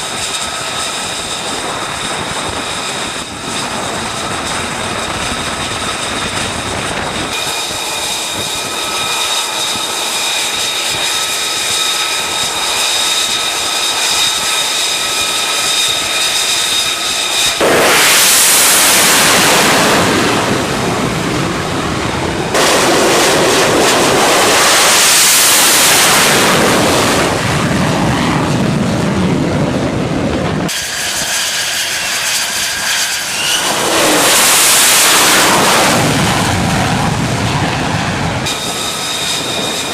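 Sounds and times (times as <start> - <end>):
jet engine roar: 0.0 - 39.9
jet turbine whine: 0.0 - 39.9.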